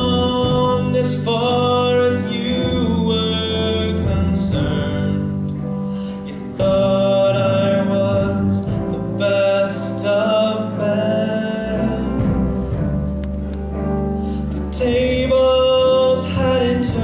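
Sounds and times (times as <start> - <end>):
man singing a ballad: 0.0 - 13.1, 14.4 - 17.0
instrumental accompaniment: 0.0 - 17.0.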